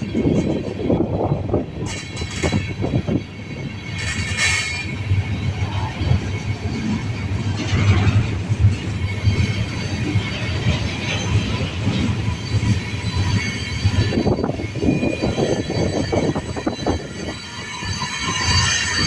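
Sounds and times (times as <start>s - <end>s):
freight train rumbling past: 0.0s - 19.0s
train wheel screech: 0.0s - 19.0s.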